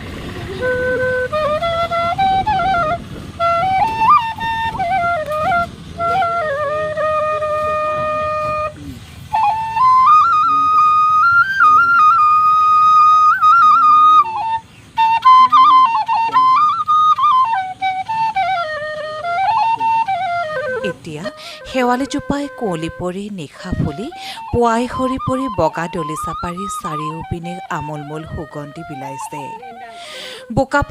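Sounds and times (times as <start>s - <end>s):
solo flute melody: 0.0s - 30.9s.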